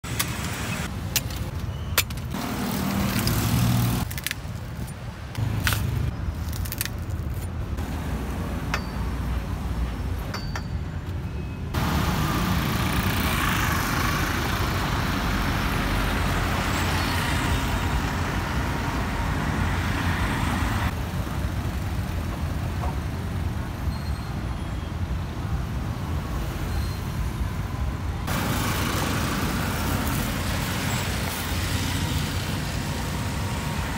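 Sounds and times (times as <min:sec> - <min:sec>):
street traffic passing: 0:00.0 - 0:33.9.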